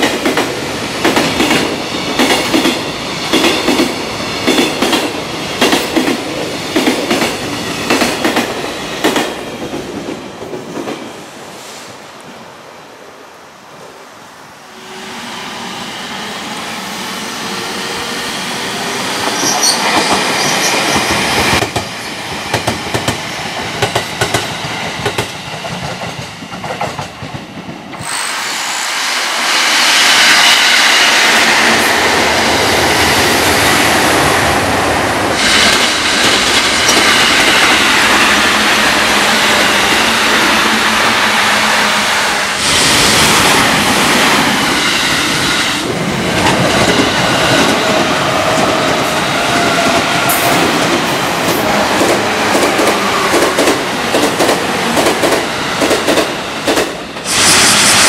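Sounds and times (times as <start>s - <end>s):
train whine: 0.0s - 58.0s.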